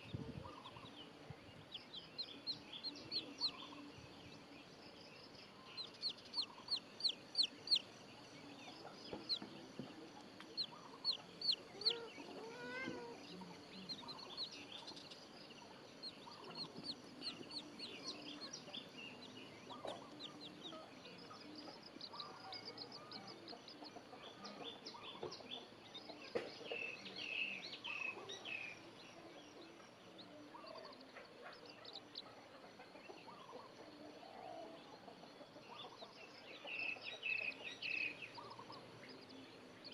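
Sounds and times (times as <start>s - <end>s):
baby chicks peeping: 0.1s - 34.0s, 34.8s - 39.9s.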